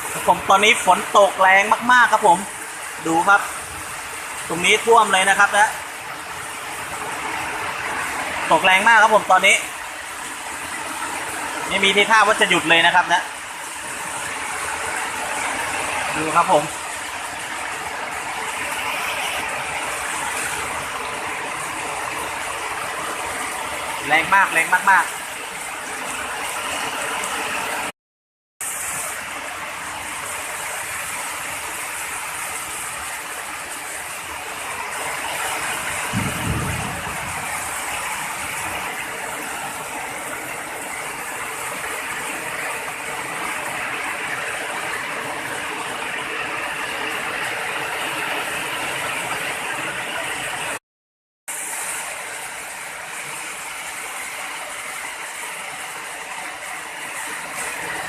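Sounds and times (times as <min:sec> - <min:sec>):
heavy rain pouring: 0:00.0 - 0:27.9, 0:28.6 - 0:50.8, 0:51.5 - 0:58.0.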